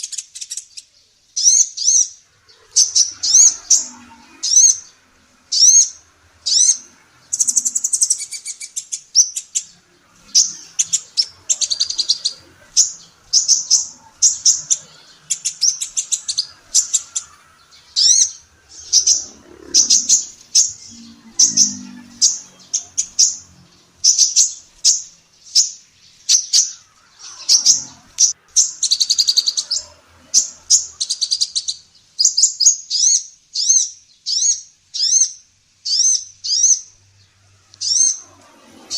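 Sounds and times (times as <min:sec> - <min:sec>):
sunbird high chirps: 0:00.0 - 0:38.9.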